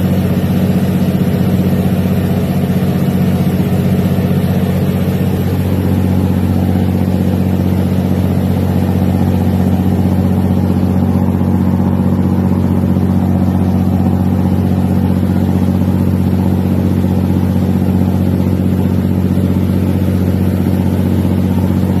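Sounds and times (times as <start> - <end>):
boat diesel engine droning: 0.0 - 22.0.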